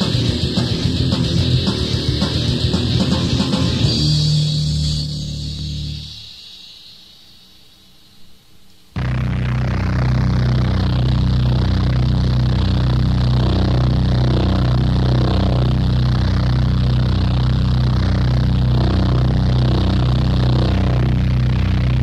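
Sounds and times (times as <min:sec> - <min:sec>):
distorted guitar and bass riff: 0:00.0 - 0:06.5, 0:09.0 - 0:22.0.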